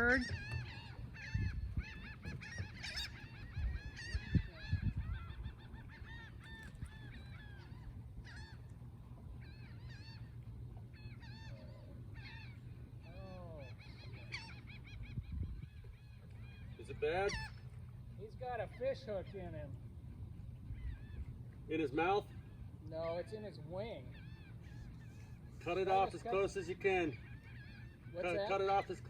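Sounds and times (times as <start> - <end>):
gull distress calls: 0.0 - 29.0.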